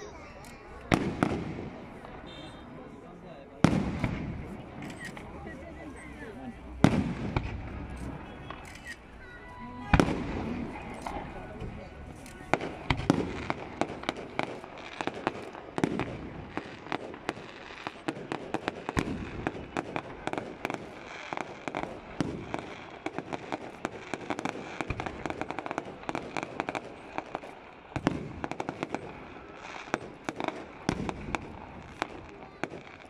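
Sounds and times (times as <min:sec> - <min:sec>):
fireworks bangs and crackles: 0:00.0 - 0:33.0
loud fireworks booms: 0:00.7 - 0:33.0.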